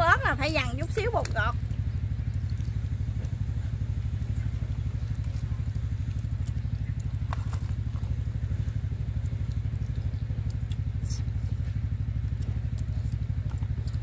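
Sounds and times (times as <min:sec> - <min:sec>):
small engine puttering: 0:00.0 - 0:14.0.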